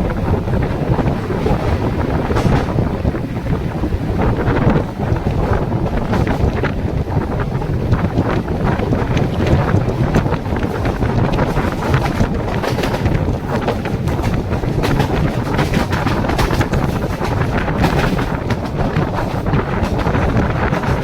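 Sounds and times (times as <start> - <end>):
train wheels clattering on rails: 0.0 - 21.0
wind buffeting microphone: 0.0 - 21.0.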